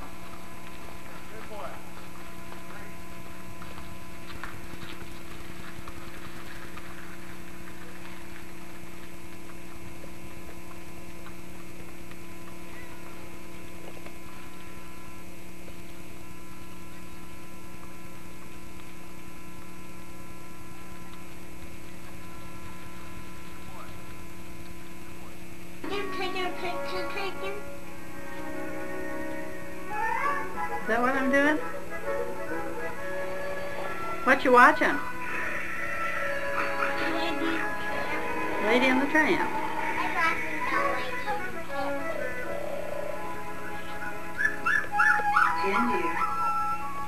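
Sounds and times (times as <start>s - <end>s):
steady electrical hum: 0.0s - 47.0s.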